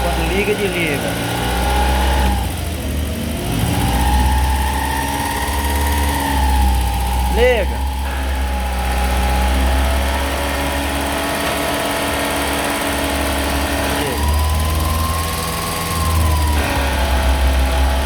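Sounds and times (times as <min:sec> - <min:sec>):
car engine idling: 0:00.0 - 0:18.0
compressor clutch cycling: 0:00.0 - 0:18.0.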